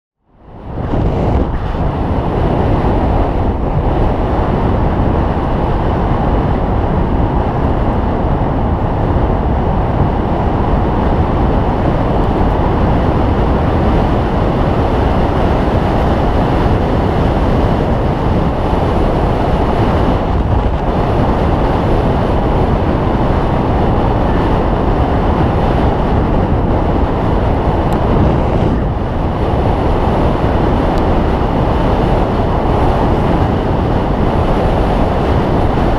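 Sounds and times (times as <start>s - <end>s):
wind and road noise rumble: 0.2s - 35.9s.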